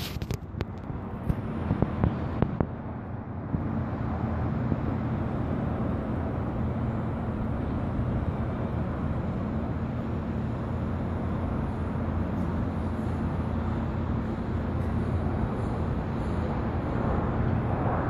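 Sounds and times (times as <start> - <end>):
faint steady hum: 0.0 - 18.0
low city rumble: 0.0 - 18.0.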